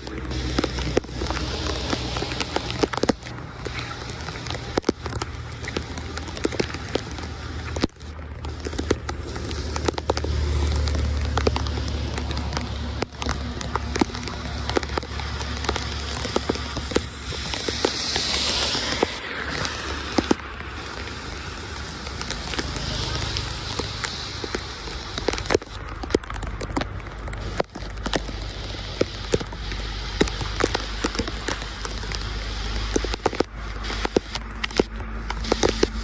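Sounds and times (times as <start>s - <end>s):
heavy rain on a street: 0.0s - 36.0s
water rushing through drain grate: 0.0s - 36.0s.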